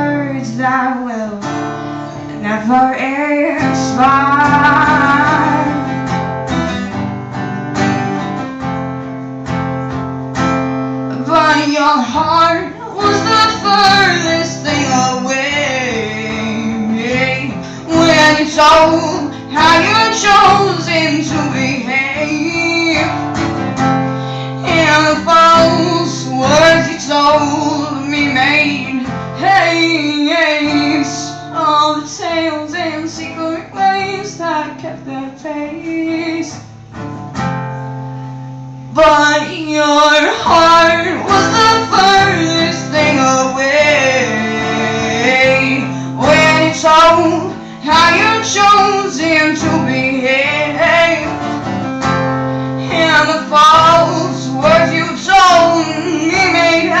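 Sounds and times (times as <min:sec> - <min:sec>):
woman singing: 0:00.0 - 0:06.1, 0:11.1 - 0:36.8, 0:38.8 - 0:57.0
acoustic guitar: 0:00.0 - 0:57.0.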